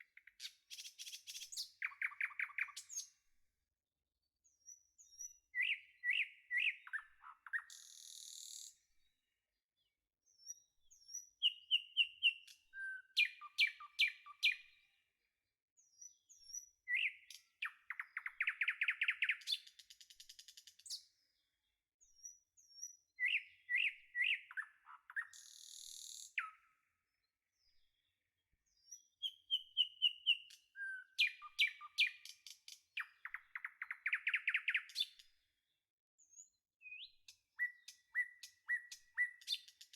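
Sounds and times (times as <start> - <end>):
bird chirps and whistled notes: 0.0 - 3.2, 4.6 - 8.8, 10.4 - 14.9, 15.9 - 21.1, 22.1 - 26.9, 28.7 - 35.3, 36.3 - 39.9.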